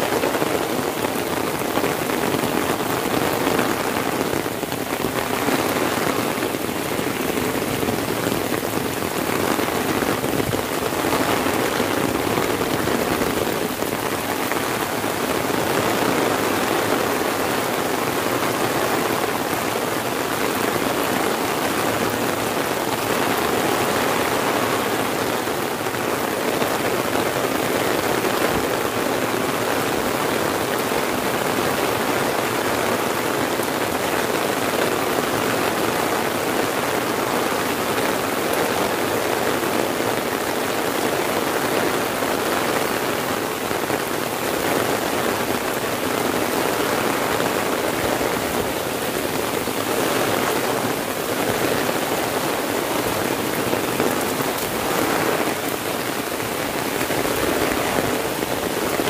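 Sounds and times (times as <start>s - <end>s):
heavy rain on an umbrella: 0.0s - 59.0s
rain on grass and trees: 0.0s - 59.0s.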